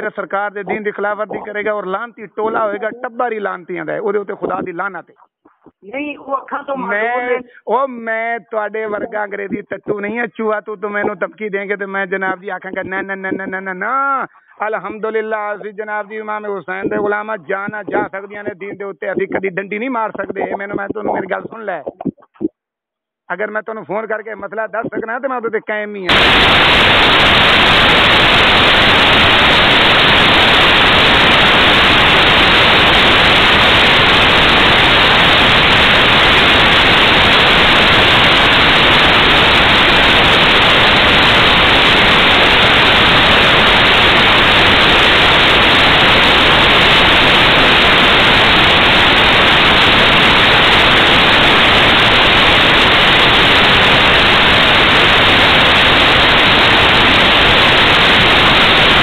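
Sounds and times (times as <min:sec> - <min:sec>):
telephone static hiss: 0:00.0 - 0:22.7, 0:26.1 - 0:59.0.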